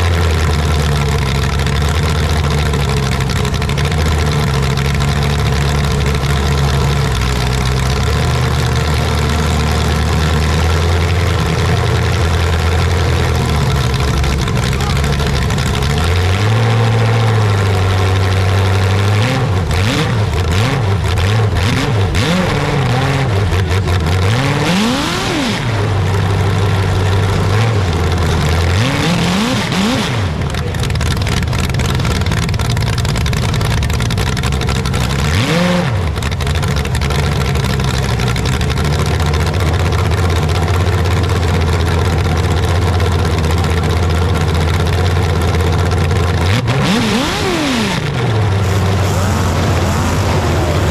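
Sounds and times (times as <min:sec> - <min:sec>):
engine running and revving: 0:00.0 - 0:50.9.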